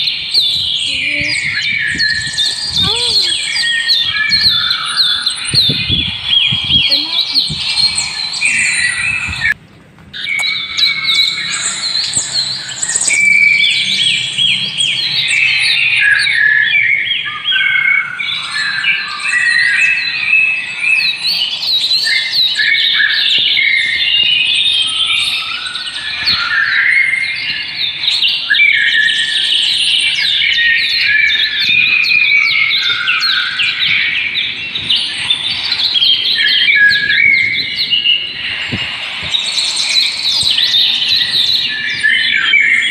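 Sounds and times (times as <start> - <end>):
chorus of birds chirping: 0.0 - 42.9.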